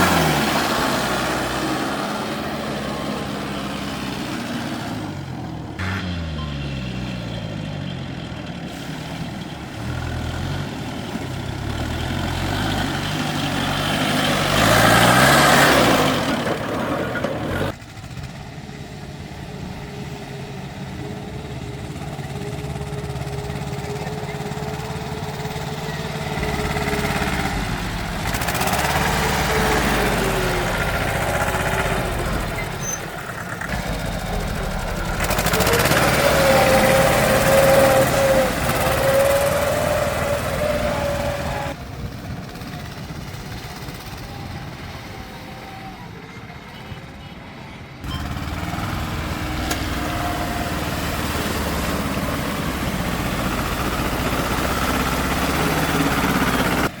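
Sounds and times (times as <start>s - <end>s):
tractor engine revving: 0.0s - 57.0s.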